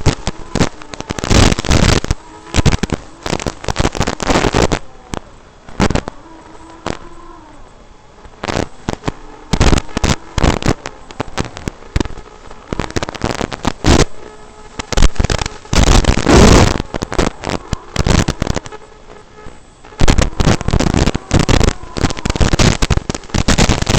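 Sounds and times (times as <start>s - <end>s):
faint steady whine: 0.0s - 23.9s
harsh crackling and popping noise: 0.0s - 23.9s.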